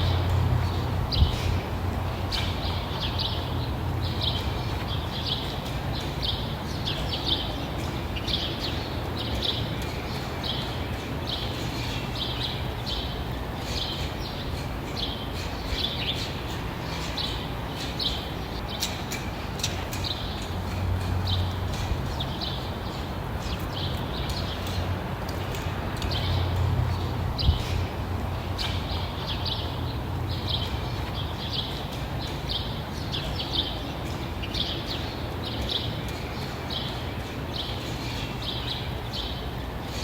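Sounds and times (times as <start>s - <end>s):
small birds chirping: 2.1s - 40.0s.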